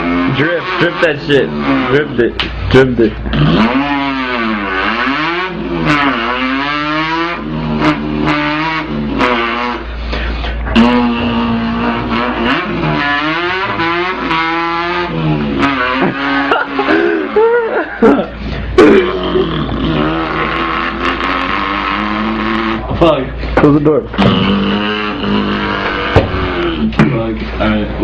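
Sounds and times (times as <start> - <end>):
man imitating car engine: 0.0 - 28.0.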